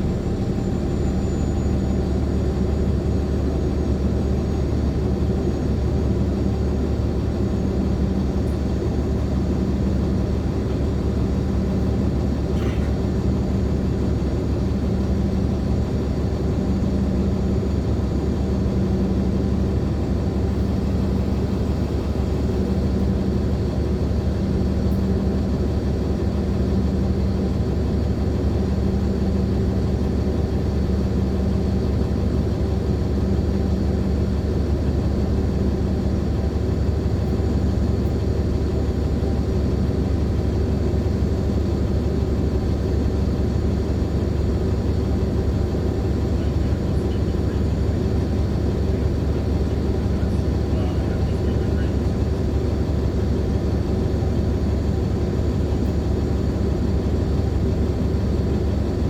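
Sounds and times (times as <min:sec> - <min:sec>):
bus diesel engine rumble: 0:00.0 - 0:59.0.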